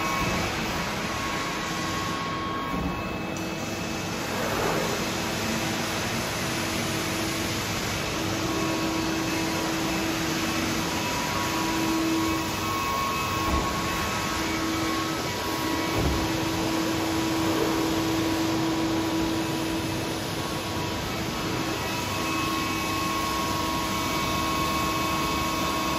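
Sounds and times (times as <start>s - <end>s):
machine hum with held tones: 0.0s - 25.9s.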